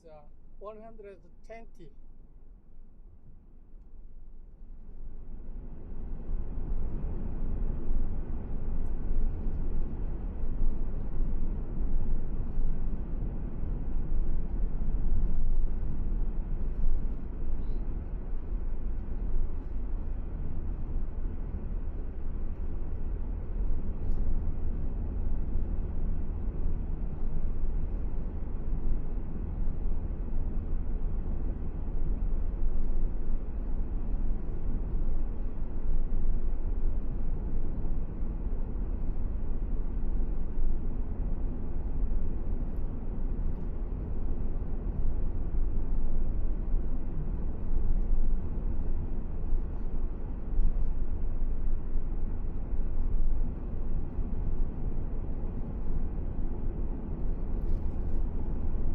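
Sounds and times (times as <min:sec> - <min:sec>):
car road and wind noise: 0:05.0 - 0:58.9.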